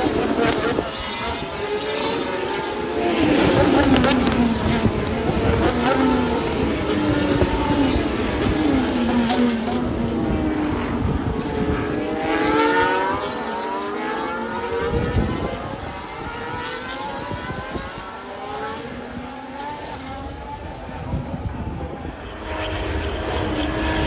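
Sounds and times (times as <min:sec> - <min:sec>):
race cars accelerating past: 0:00.0 - 0:24.0.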